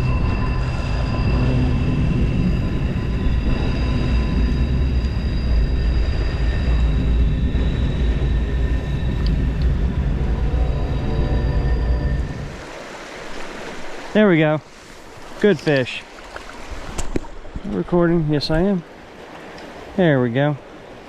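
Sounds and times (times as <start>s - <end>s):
stream water rushing: 2.8s - 21.0s.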